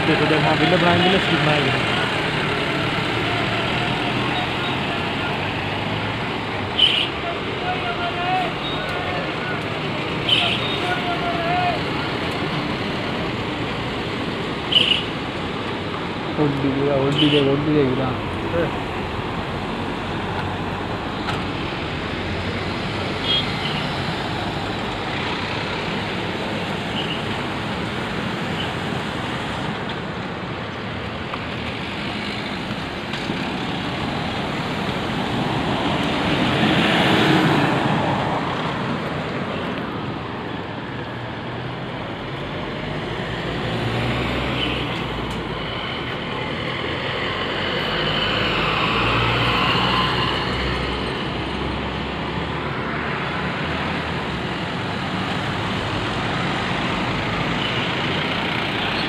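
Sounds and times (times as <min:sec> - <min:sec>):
street traffic: 0:00.0 - 0:59.0.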